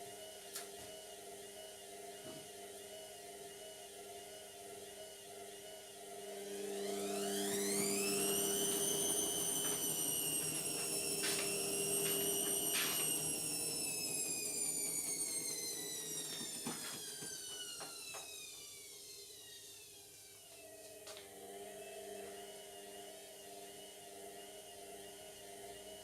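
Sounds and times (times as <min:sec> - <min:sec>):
washing machine spinning: 0:04.3 - 0:26.0.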